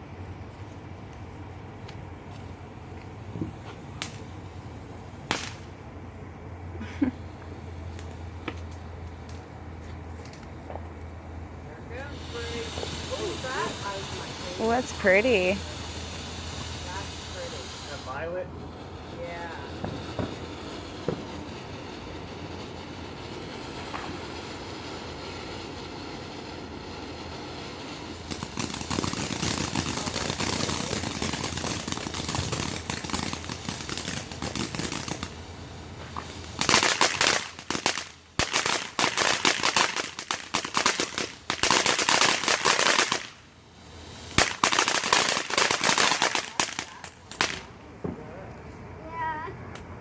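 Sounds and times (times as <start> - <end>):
fireworks crackling pops: 0.0 - 50.0
fireworks hissing: 0.0 - 50.0.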